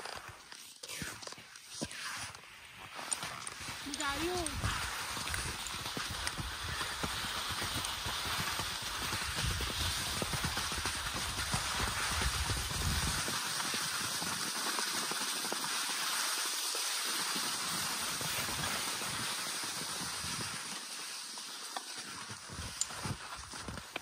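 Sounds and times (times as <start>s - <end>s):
skis scraping over snow: 0.0s - 24.0s.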